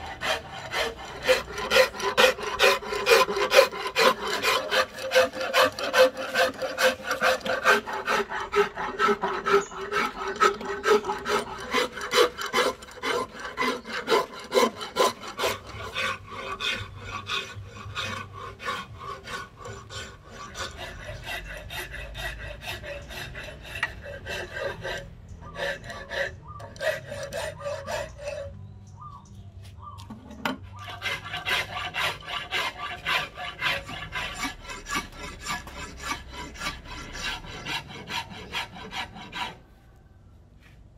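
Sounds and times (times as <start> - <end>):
hand file rasping on wood: 0.0 - 28.5, 30.7 - 39.7.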